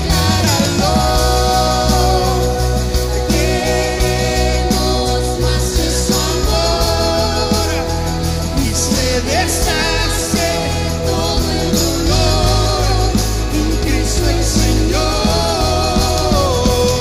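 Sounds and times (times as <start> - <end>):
live band playing: 0.0 - 17.0
man singing lead: 0.0 - 17.0.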